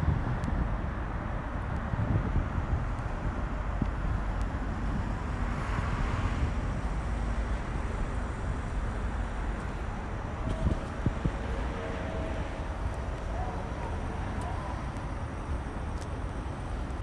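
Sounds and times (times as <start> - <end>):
wind on the microphone: 0.0 - 8.8, 9.6 - 15.2
distant traffic: 0.0 - 17.0.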